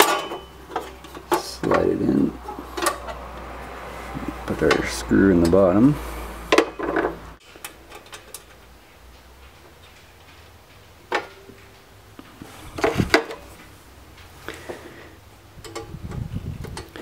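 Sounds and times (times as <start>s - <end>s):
clicks and light metal knocks: 0.0s - 3.5s, 4.3s - 5.6s, 6.5s - 14.8s, 15.6s - 17.0s.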